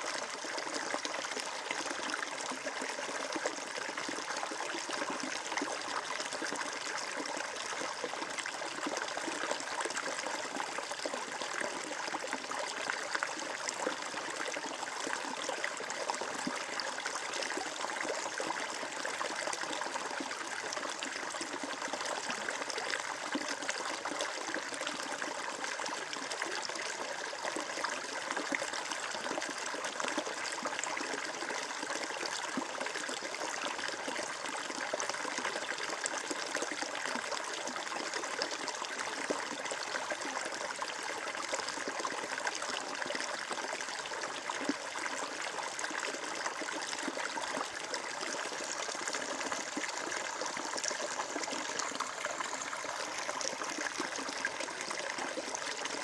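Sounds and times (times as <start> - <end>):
stream trickling and bubbling: 0.0 - 56.0.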